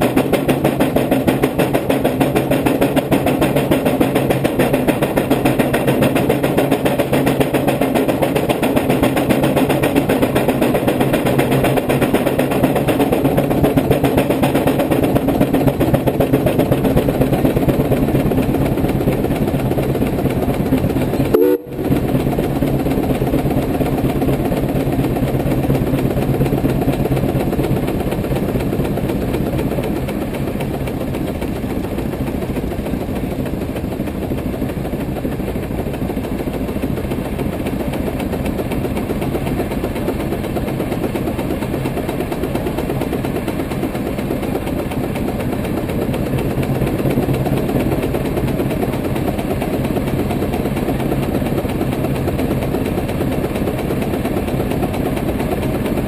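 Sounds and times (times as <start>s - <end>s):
steam engine exhaust beating: 0.0s - 56.0s.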